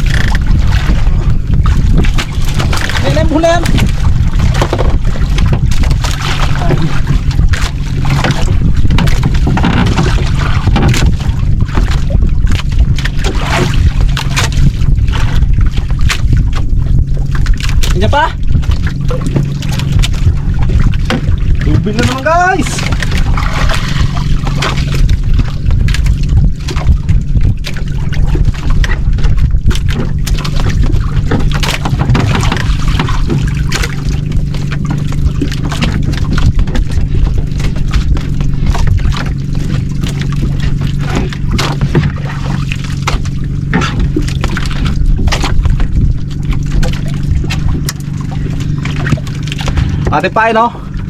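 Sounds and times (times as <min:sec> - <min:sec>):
boat engine running: 0:00.0 - 0:51.0
water splashing against hull: 0:00.0 - 0:51.0.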